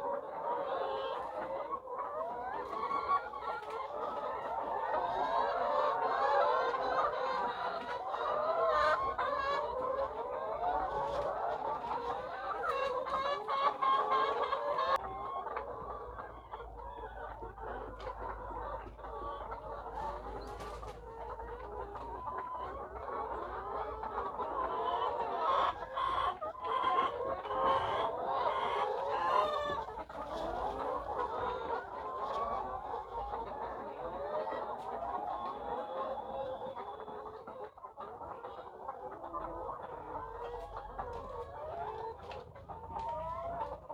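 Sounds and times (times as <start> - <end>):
hens clucking and calling: 0.0 - 43.9.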